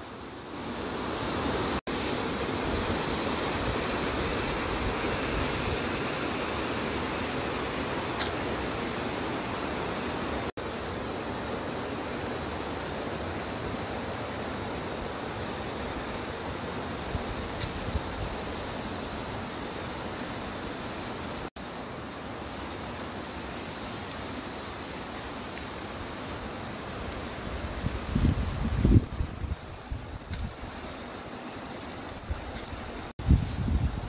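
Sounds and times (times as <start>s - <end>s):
stream rushing: 0.0s - 34.0s.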